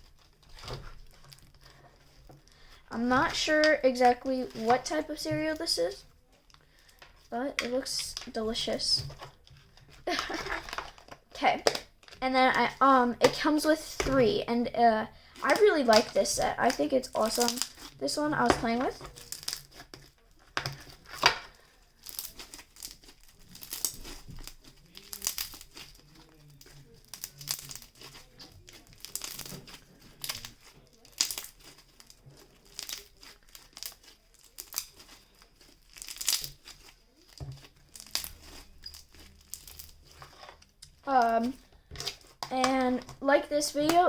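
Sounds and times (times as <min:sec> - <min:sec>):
slime crackling and popping: 0:00.0 - 0:44.0.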